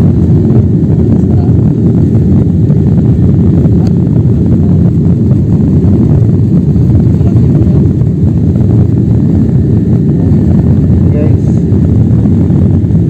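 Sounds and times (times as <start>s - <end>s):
airliner engines roaring in cabin: 0.0s - 13.0s.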